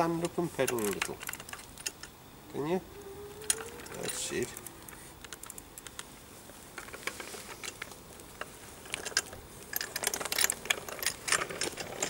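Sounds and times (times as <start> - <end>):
bicycle clicking and rattling: 0.0 - 12.0.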